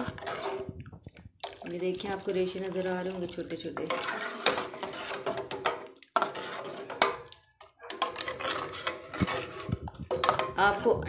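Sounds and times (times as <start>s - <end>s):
metal ladle scraping pot: 0.0s - 11.0s.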